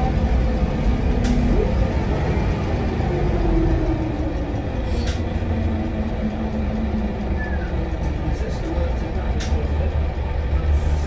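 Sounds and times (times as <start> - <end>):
bus engine and road rumble: 0.0 - 11.0
engine whine: 0.0 - 11.0.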